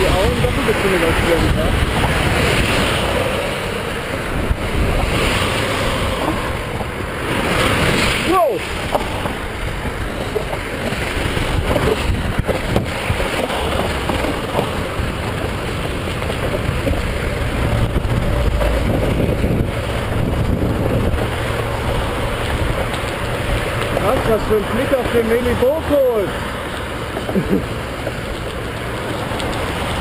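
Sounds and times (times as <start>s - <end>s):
cars passing with low rumble: 0.0s - 30.0s
wind on microphone: 0.0s - 30.0s.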